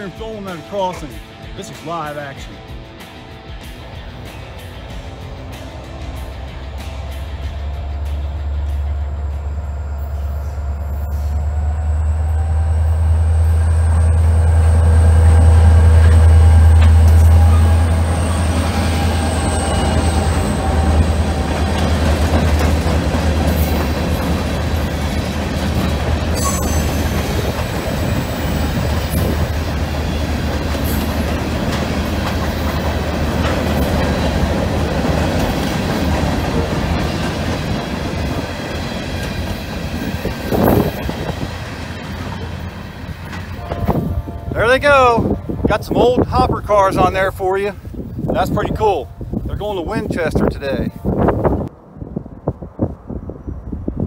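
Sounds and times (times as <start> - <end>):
steel wheels rattling on rails: 0.0 - 51.7
diesel locomotive engine drone: 0.0 - 54.0.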